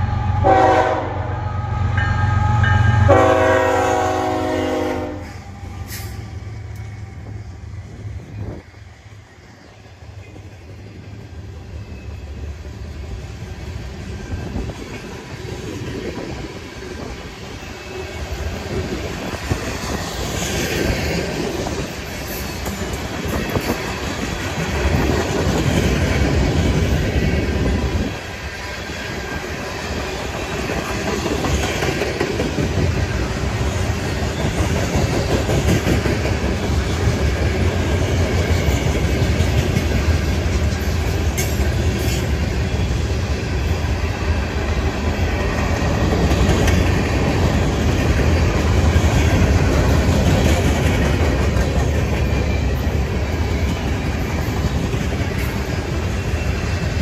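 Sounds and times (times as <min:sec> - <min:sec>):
train running past: 0:00.0 - 0:57.0.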